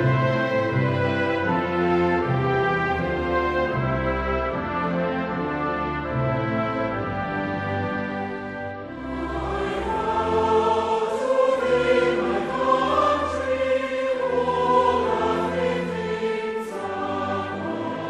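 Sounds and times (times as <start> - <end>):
choir singing sustained notes: 0.0 - 18.0
orchestral accompaniment: 0.0 - 18.0.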